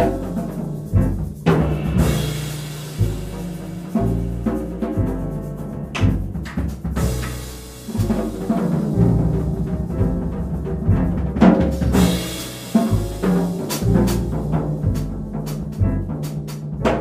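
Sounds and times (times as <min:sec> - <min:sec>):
drum and cymbal strokes: 0:00.0 - 0:09.4, 0:11.7 - 0:16.6
piano: 0:00.0 - 0:17.0
upright bass notes: 0:00.0 - 0:17.0.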